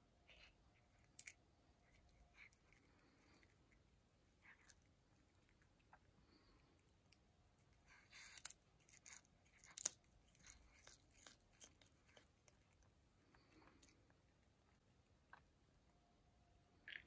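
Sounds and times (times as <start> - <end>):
cat crunching dried fish: 0.3 - 15.6.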